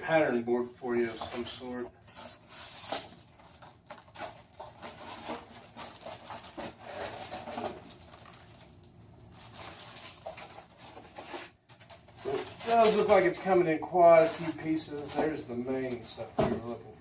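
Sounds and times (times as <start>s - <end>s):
plastic packaging rustling: 0.7s - 16.8s.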